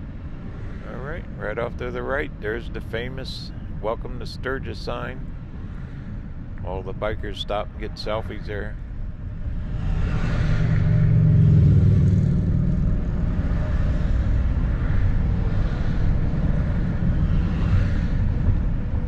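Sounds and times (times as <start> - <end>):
road and engine rumble in cabin: 0.0 - 19.0.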